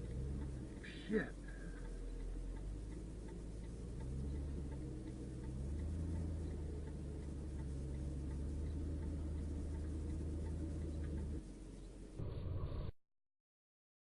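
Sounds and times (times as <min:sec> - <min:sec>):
light regular ticking: 0:00.0 - 0:12.2
low vehicle hum: 0:00.0 - 0:12.9.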